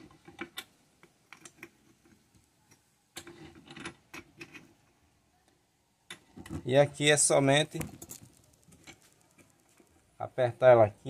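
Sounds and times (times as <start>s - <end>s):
small clicks and metallic knocks: 0.0s - 6.7s, 7.6s - 10.1s.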